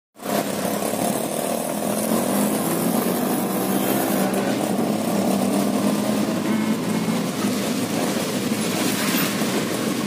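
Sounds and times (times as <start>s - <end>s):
tyres on wet road: 0.2s - 10.0s.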